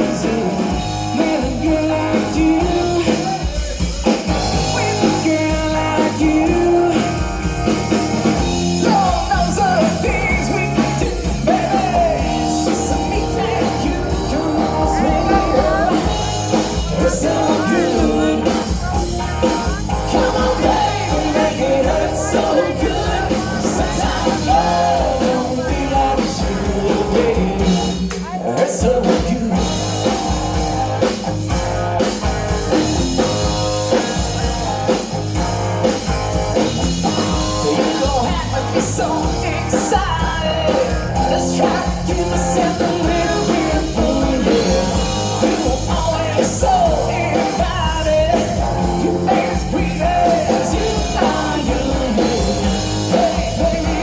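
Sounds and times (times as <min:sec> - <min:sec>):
person singing: 0:00.0 - 0:31.1, 0:37.0 - 0:54.0
live rock band: 0:00.0 - 0:54.0.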